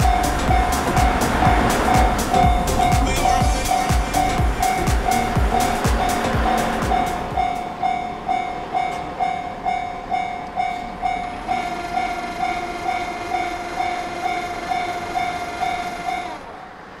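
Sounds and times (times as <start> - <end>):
higher tones: 0.0 - 16.5
level crossing alarm bell: 1.9 - 6.2, 6.9 - 16.4.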